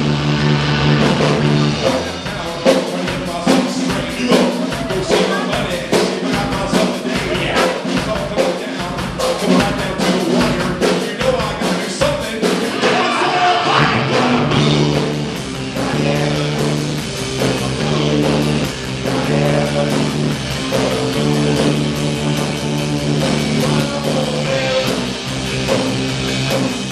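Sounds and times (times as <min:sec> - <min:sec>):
drum kit: 0:00.0 - 0:26.9
man singing: 0:01.6 - 0:26.9.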